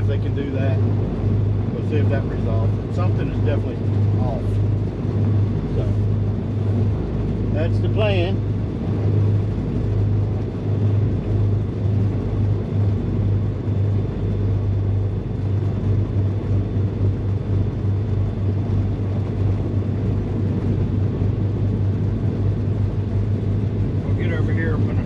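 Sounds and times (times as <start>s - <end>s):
twin piston engines droning: 0.0s - 25.0s.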